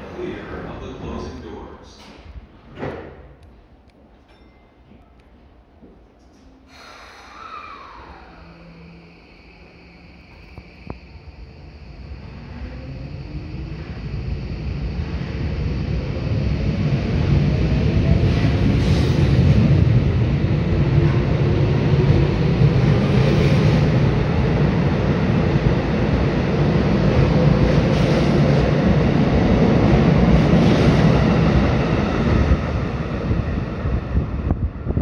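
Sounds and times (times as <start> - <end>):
subway train motor whine: 5.8 - 35.0
train wheels rumbling: 6.7 - 35.0.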